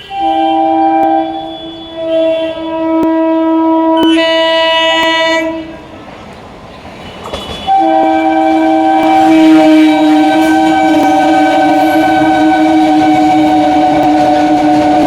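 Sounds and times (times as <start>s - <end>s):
train horn blast: 0.0s - 5.9s, 7.0s - 15.0s
higher-pitched train horn: 0.0s - 6.0s, 7.0s - 15.0s
train running noise: 0.0s - 15.0s.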